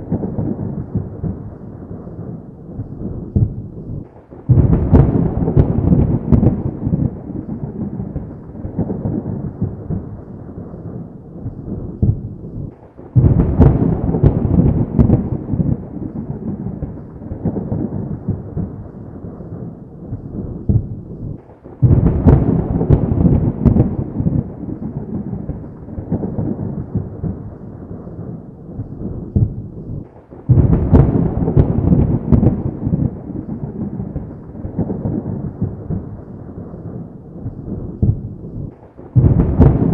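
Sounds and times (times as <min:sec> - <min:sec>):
thunder claps rumbling: 0:00.0 - 0:39.9.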